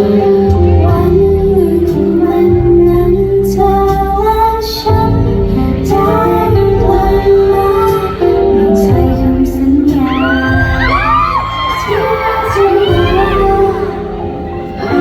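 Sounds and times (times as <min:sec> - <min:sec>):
amplified backing music with bass: 0:00.0 - 0:15.0
woman singing: 0:00.0 - 0:15.0.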